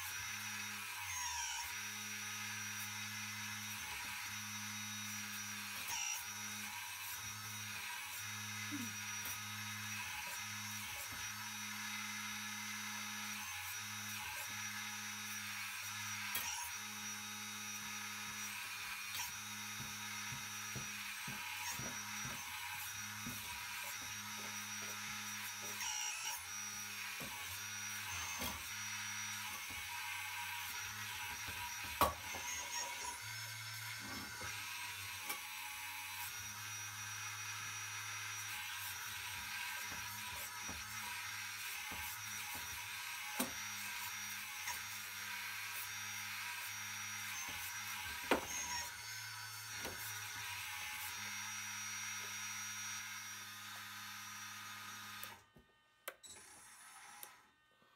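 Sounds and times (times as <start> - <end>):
electric hydraulic pump running: 0.0 - 55.5, 56.1 - 57.5.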